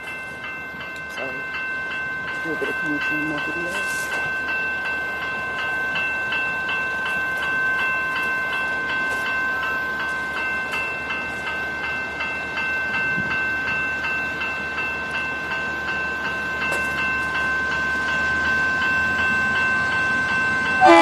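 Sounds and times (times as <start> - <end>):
level crossing bell ringing: 0.0 - 21.0.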